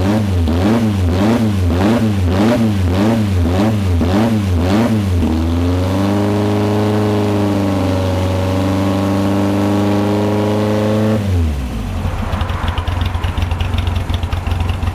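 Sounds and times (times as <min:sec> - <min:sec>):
car engine revving and idling: 0:00.0 - 0:14.9.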